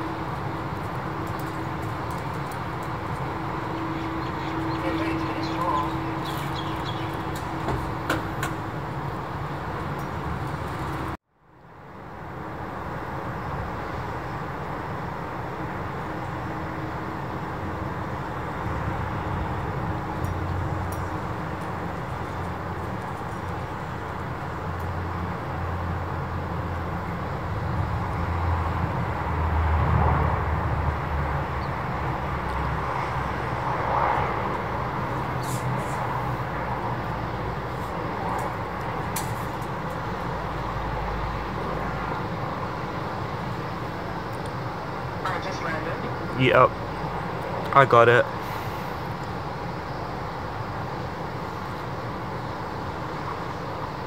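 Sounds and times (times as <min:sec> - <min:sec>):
outdoor rumble and hiss: 0:00.0 - 0:54.0
turboprop aircraft engines droning: 0:00.0 - 0:54.0.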